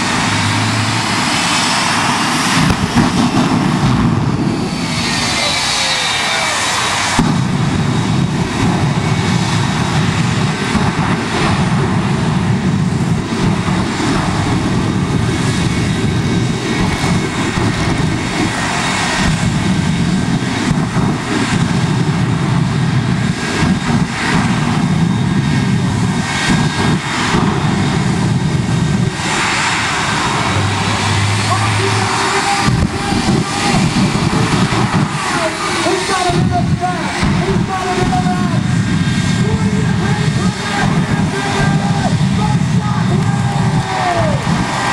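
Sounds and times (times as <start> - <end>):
jet engines roaring with afterburners: 0.0 - 44.9.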